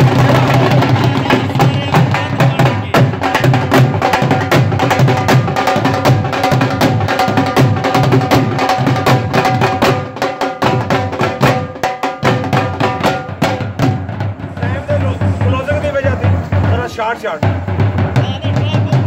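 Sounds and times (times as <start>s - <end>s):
fast drumming: 0.0s - 19.0s.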